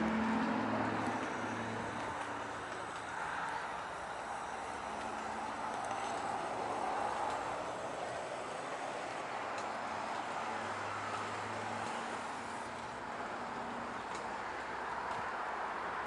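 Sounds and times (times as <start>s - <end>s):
low engine hum: 0.0s - 16.0s
traffic tyre hiss: 0.0s - 16.0s.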